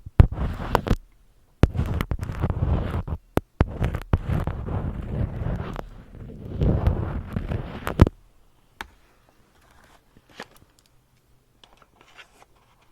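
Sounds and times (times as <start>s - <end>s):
close rustling and crackling: 0.0s - 11.0s.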